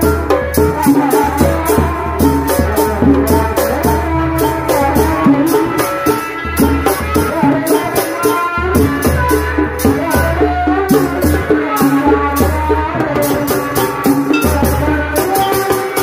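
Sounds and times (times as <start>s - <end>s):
band melody: 0.0s - 16.0s
drums and percussion beat: 0.0s - 16.0s.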